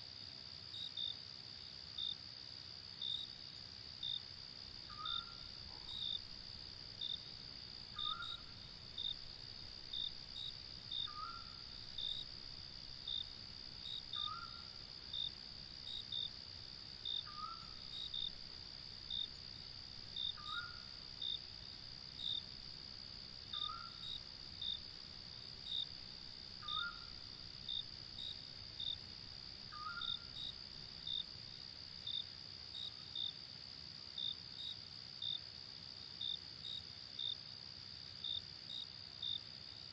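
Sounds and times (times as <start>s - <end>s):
crickets trilling: 2.0s - 39.9s.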